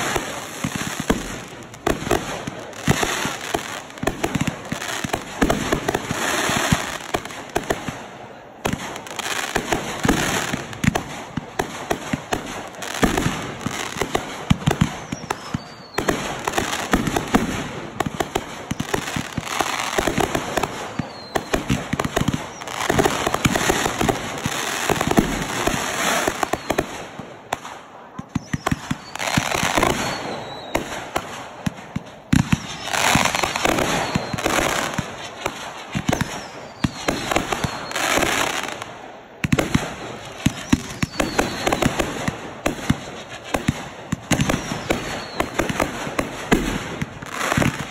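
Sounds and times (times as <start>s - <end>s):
firework bangs: 0.0s - 47.9s
firework crackling: 0.0s - 47.9s.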